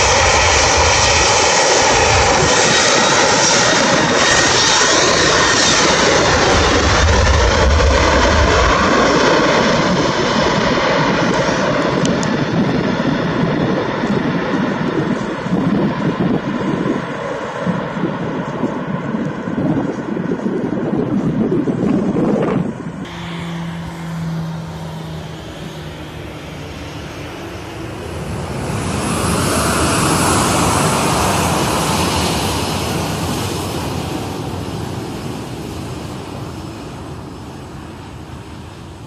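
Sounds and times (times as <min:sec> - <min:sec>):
distant jet engine noise: 0:00.0 - 0:39.0
loud jet engines at takeoff: 0:00.0 - 0:39.0.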